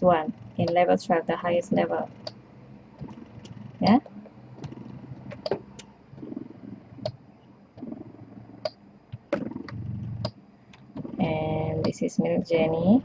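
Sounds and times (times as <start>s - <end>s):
breast pump pulsing hum: 0.0s - 13.0s.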